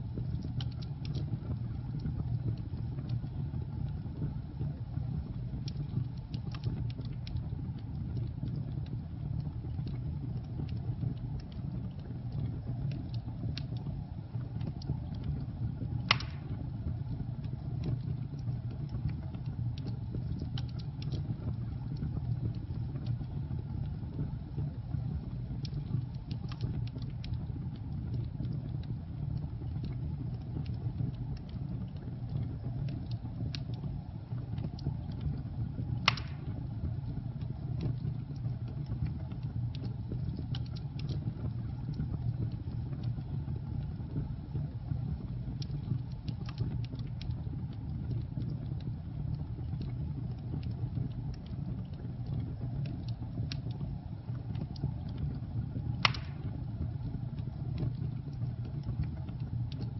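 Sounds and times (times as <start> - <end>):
fire crackles and pops: 0.0 - 59.9
log fire burning: 0.0 - 59.9.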